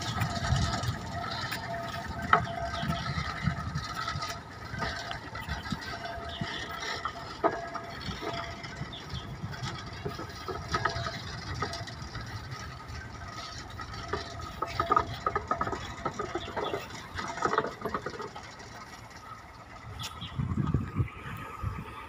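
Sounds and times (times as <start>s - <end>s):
metallic clicking and rattling: 0.0s - 21.6s
diesel locomotive engine rumble: 0.0s - 22.0s.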